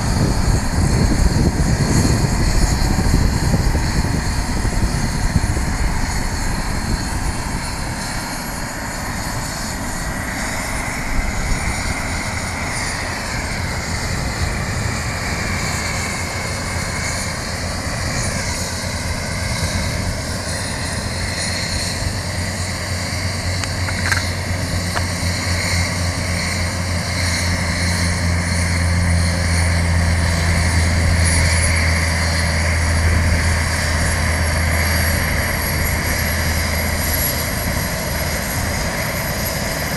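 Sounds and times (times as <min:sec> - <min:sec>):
helicopter engine whine: 0:00.0 - 0:39.9
low hum: 0:00.0 - 0:39.9.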